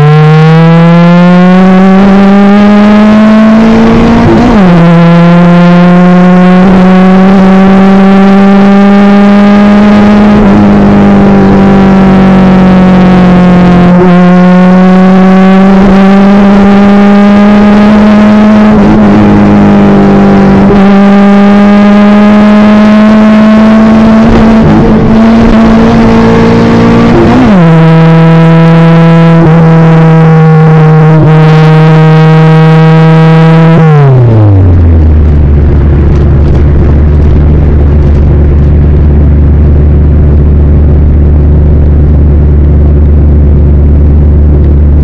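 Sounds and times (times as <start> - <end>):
car engine at high revs: 0.0 - 45.0.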